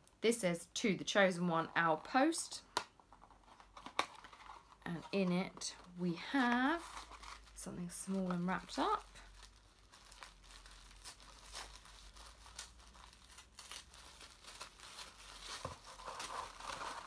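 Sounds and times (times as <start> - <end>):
paper wrapping crinkling: 3.2 - 17.0.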